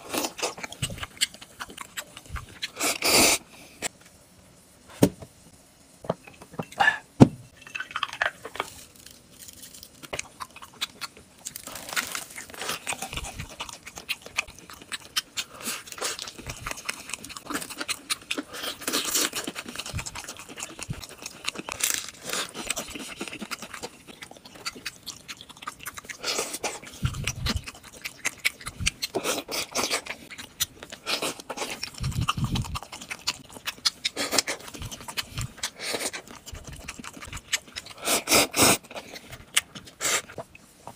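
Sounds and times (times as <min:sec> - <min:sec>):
crunchy food being chewed: 0:00.0 - 0:03.4, 0:07.7 - 0:40.9.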